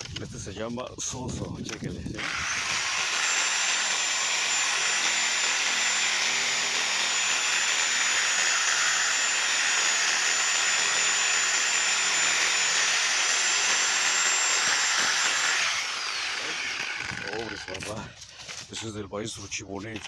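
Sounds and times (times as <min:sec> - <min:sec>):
power saw cutting branch: 0:01.6 - 0:18.9.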